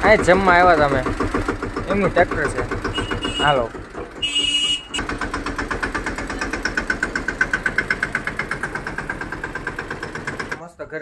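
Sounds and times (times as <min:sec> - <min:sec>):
diesel engine idling: 0:00.0 - 0:10.9.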